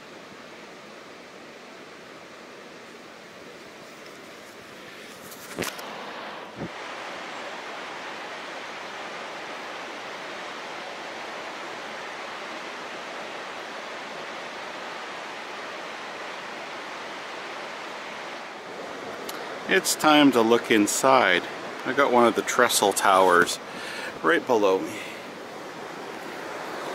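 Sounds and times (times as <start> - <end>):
creek rushing: 0.0 - 26.9.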